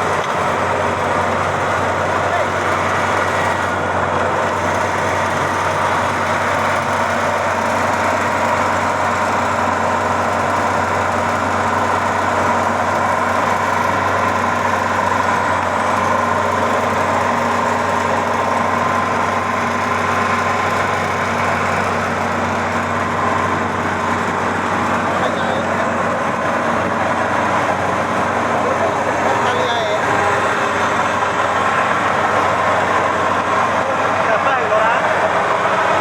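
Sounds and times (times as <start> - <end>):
combine harvester engine running: 0.0 - 36.0
constant high whine: 0.0 - 36.0.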